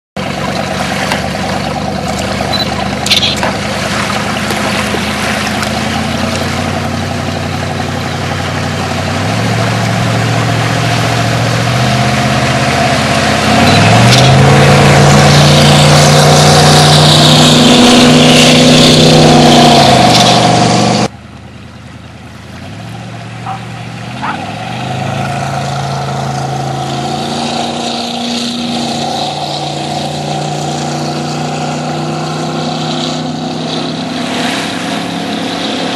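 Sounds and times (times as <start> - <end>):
speedboat engine running: 0.2 - 35.9.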